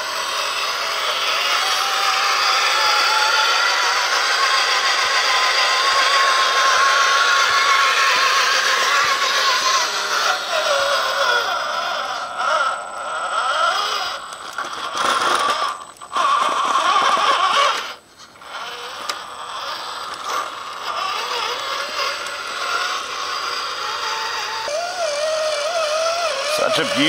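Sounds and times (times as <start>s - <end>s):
electric motor whining through gears: 0.0s - 27.0s.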